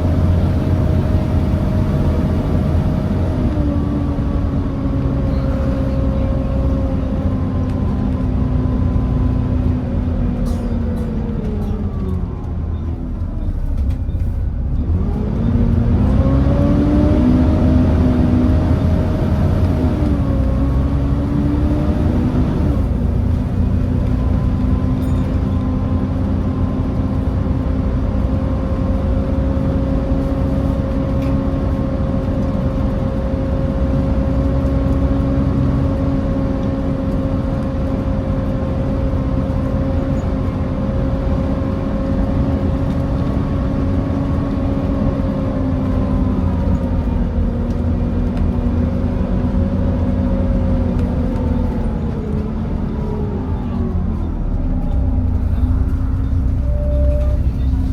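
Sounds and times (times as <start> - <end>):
bus engine rumble: 0.0 - 57.9
cooling fans whine: 0.0 - 57.9.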